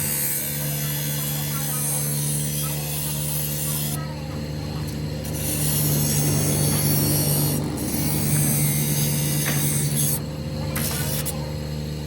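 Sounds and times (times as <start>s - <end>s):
workshop machine humming: 0.0s - 12.0s.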